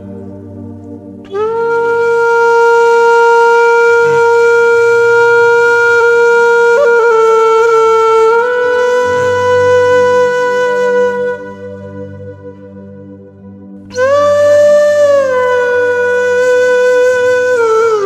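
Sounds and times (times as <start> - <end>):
low drone: 0.0 - 18.0
wind instrument sustained notes: 0.0 - 18.0.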